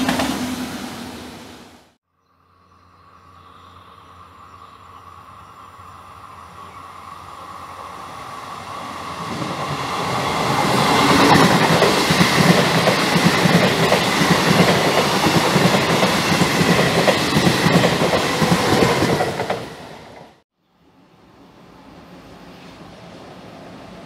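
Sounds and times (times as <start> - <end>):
passenger train rumbling past: 0.0 - 2.0, 3.0 - 20.4, 21.0 - 24.0.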